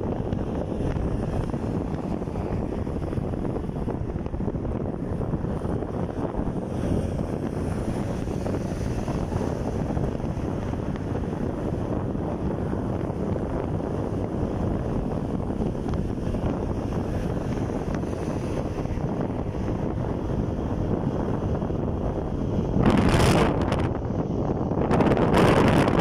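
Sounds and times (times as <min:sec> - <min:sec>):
motorcycle running: 0:00.0 - 0:26.0
wind buffeting microphone: 0:00.0 - 0:26.0.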